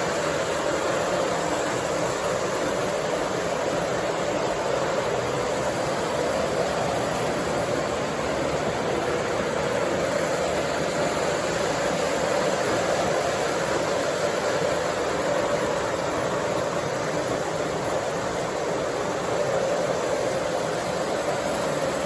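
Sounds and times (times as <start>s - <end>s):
model train running on track: 0.0s - 22.0s.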